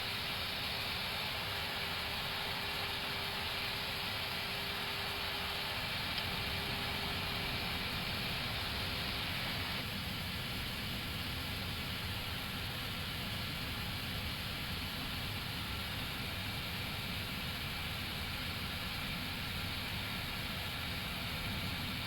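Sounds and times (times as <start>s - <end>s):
air-conditioning hiss: 0.0s - 22.0s.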